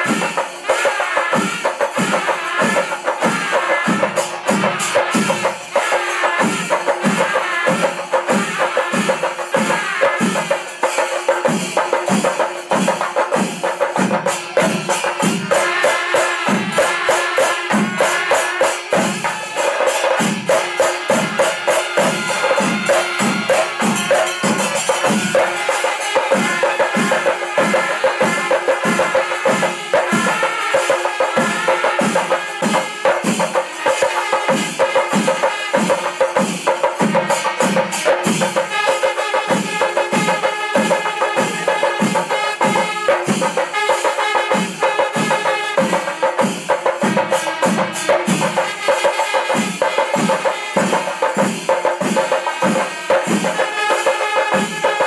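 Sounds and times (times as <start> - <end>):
drums beating steady rhythm: 0.0 - 55.0
hand cymbals clashing: 0.0 - 55.0.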